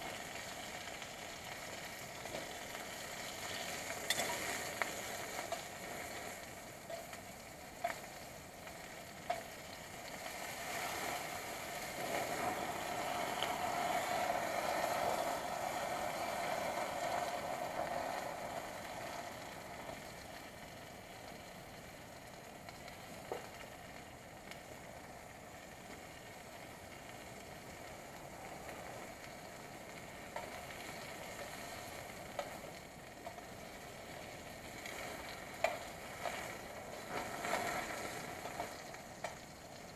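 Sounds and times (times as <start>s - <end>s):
campfire crackles: 0.0s - 39.9s
food sizzling in a pan: 0.0s - 39.9s.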